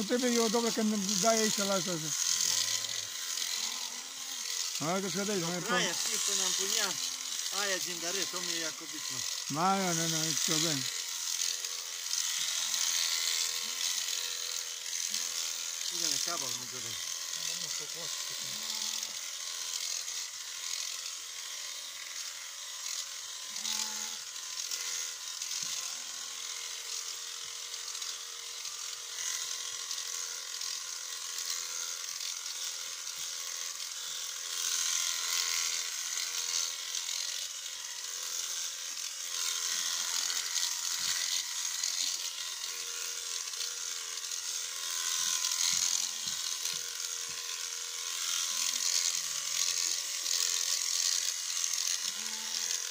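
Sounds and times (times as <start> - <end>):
electric sheep shears running: 0.0 - 52.9.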